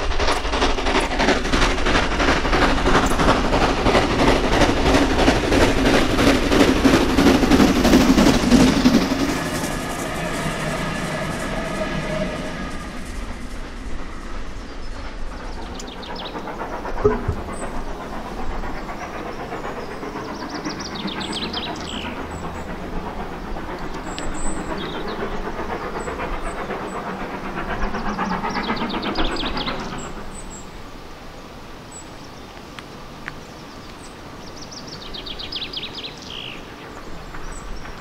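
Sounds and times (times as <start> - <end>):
steam train rumbling: 0.0 - 38.0.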